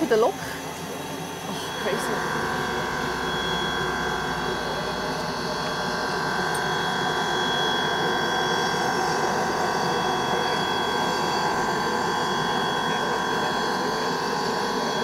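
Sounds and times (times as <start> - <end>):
high whining tones: 0.6 - 15.0.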